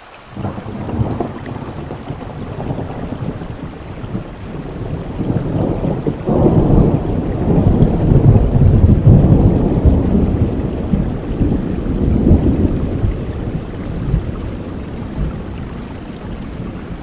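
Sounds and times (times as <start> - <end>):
rain falling: 0.0 - 17.0
thunder rolling: 0.4 - 17.0.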